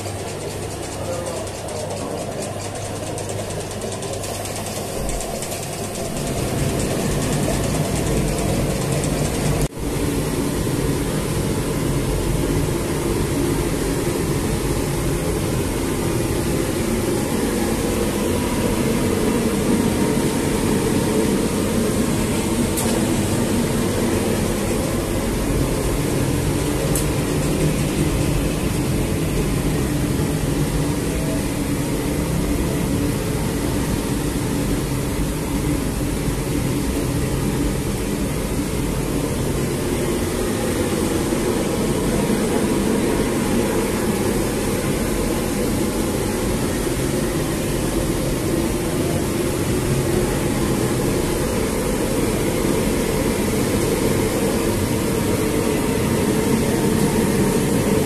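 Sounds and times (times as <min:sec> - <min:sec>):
dough mixer droning: 0:00.0 - 0:58.0.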